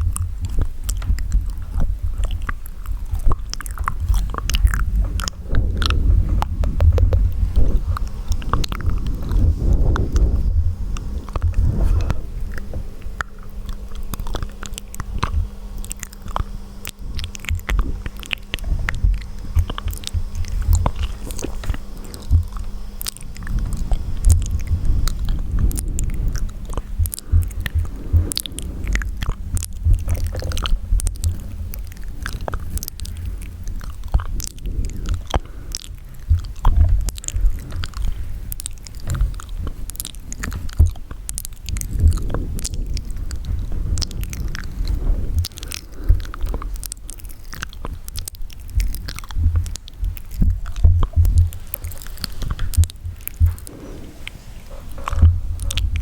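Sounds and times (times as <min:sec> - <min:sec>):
wet mouth sounds: 0:00.0 - 0:56.0.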